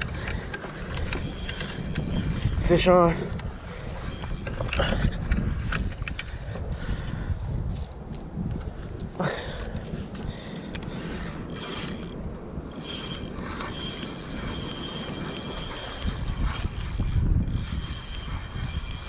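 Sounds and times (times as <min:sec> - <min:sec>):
fishing reel clicking: 0:00.0 - 0:19.0.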